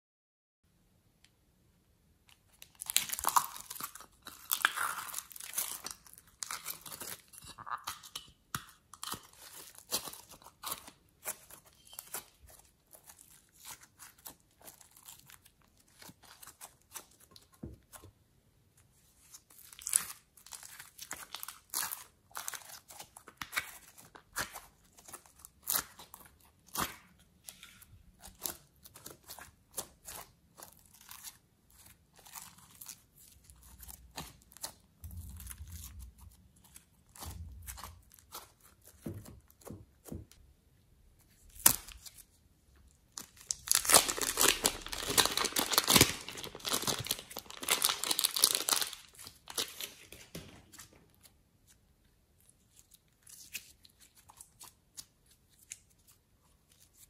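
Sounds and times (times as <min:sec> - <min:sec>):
hands squishing sticky slime: 0:02.4 - 0:18.2, 0:19.2 - 0:40.4, 0:41.2 - 0:57.0.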